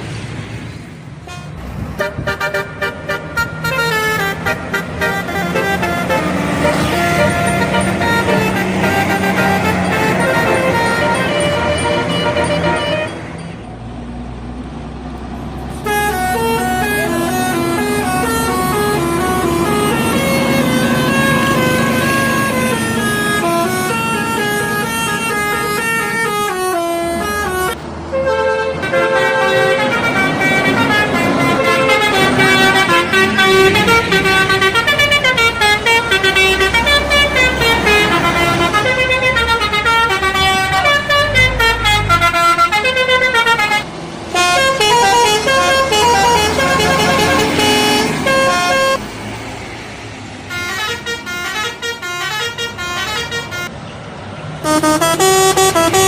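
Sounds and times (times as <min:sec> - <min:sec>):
bus horns playing melodic runs: 0:01.2 - 0:13.6, 0:15.7 - 0:49.6, 0:50.4 - 0:53.7, 0:54.6 - 0:56.0.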